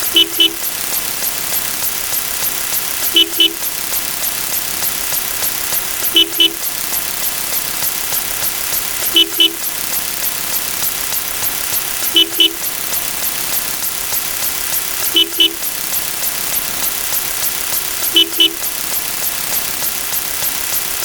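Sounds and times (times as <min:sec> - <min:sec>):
faint rapid ticking: 0:00.0 - 0:21.0.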